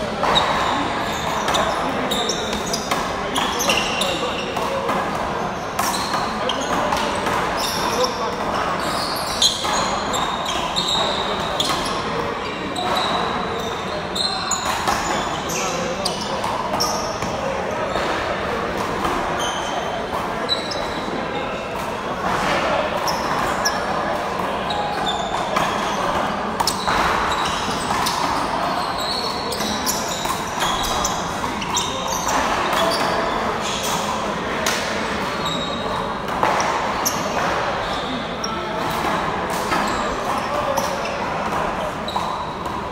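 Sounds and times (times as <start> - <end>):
sneakers squeaking on court: 0.0 - 42.9.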